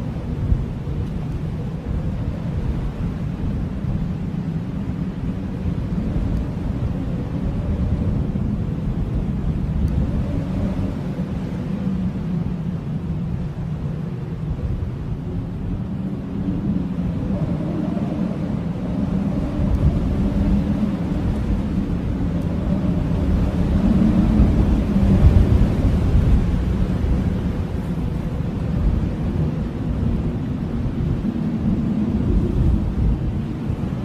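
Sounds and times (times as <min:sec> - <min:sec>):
blizzard wind howling: 0:00.0 - 0:34.0.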